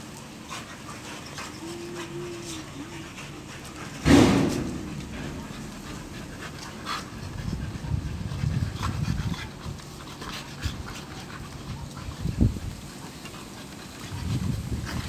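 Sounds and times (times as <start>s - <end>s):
dogs panting and growling: 0.0s - 15.0s.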